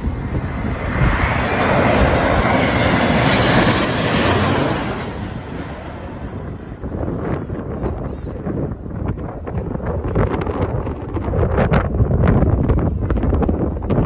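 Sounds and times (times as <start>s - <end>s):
jet airliner passing overhead: 0.0s - 14.0s.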